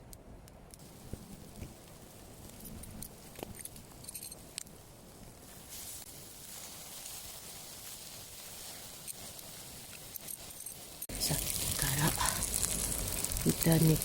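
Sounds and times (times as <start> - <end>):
fire crackling pops: 0.0 - 14.0
campfire hiss: 0.8 - 14.0.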